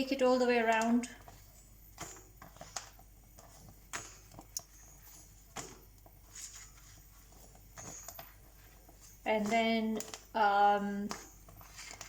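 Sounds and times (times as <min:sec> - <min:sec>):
papad crackling over flame: 0:00.0 - 0:12.0.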